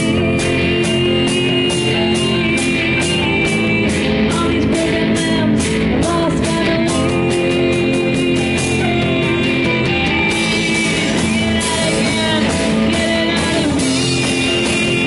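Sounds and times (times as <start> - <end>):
drum kit steady beat: 0.0 - 15.0
electric guitars: 0.0 - 15.0.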